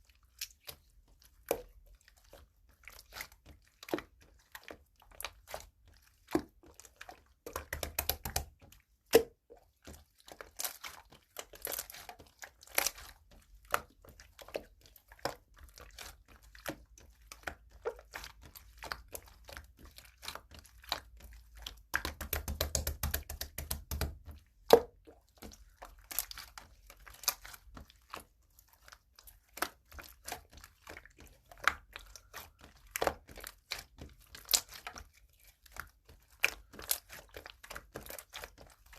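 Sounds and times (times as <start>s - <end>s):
slime clicking and squelching: 0.0s - 38.9s.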